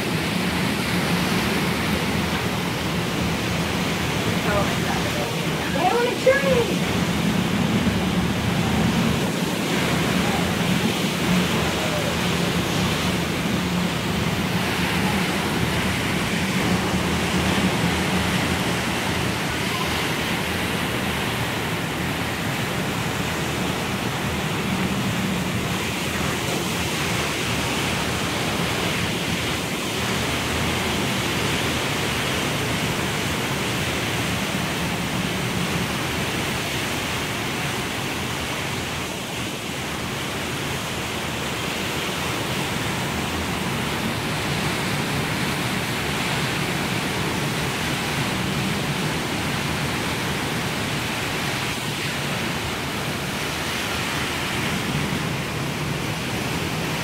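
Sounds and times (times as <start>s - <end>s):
strong storm wind: 0.0s - 57.0s.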